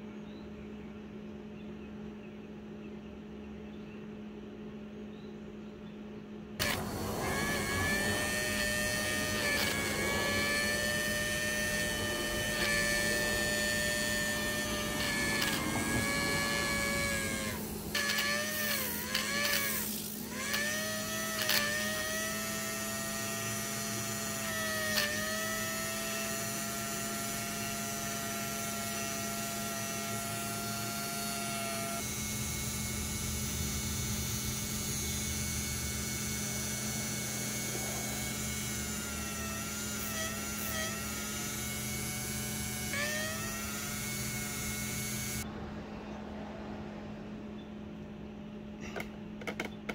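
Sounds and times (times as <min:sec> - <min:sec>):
electric motor whine: 0:06.6 - 0:46.9.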